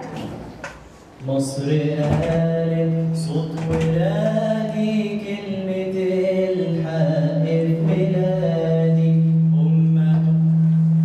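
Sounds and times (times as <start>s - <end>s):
man chanting into a microphone: 1.2s - 10.9s.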